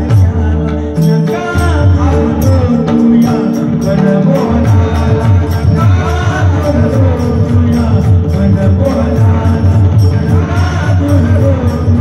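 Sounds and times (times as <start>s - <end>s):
drum beat: 0.0s - 12.0s
hand cymbals struck rhythmically: 0.0s - 12.0s.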